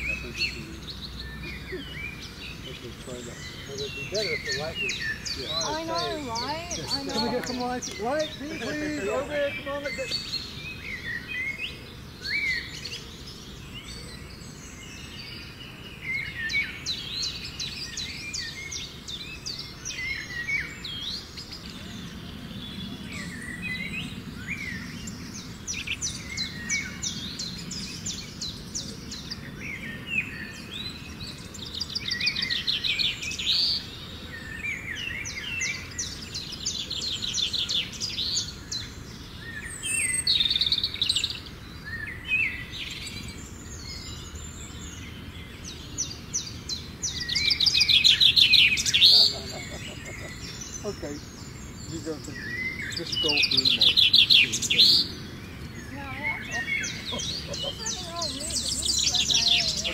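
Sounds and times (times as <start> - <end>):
birds calling and singing: 0.0 - 59.9.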